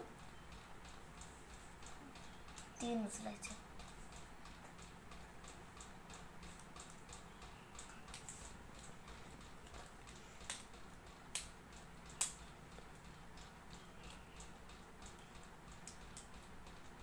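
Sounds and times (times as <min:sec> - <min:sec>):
faint steady ticking: 0:00.0 - 0:17.0
sharp clicks: 0:00.2 - 0:02.8, 0:03.4 - 0:17.0.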